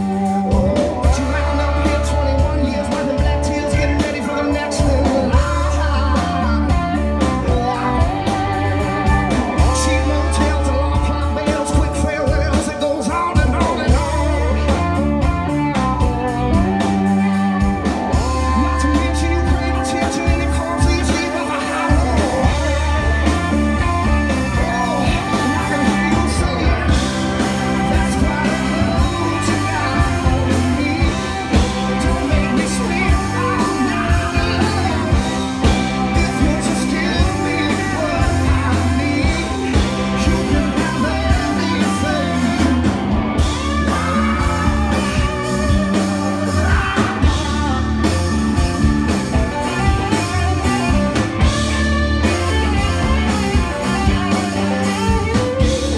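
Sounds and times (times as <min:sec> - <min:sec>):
bass guitar: 0:00.0 - 0:55.9
drum kit: 0:00.0 - 0:55.9
electric guitars: 0:00.0 - 0:55.9.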